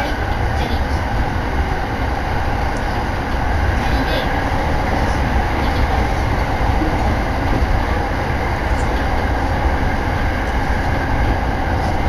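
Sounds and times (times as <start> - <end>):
electric train running: 0.0 - 12.0
wind buffeting microphone: 0.0 - 12.0.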